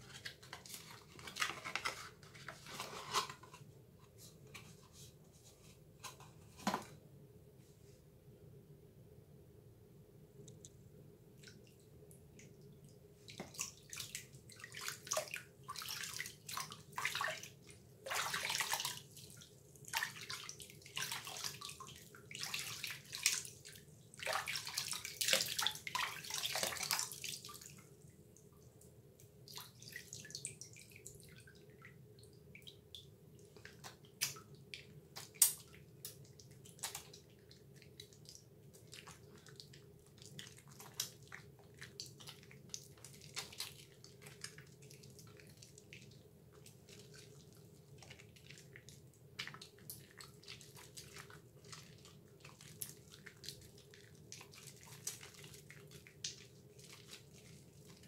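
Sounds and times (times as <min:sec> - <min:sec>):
soap squishing between wet hands: 0:11.4 - 0:58.0.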